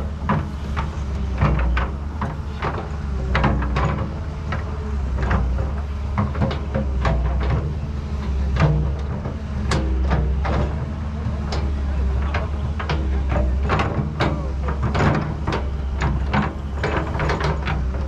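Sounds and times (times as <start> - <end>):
clunks and squeaks of moving parts: 0.0 - 18.0.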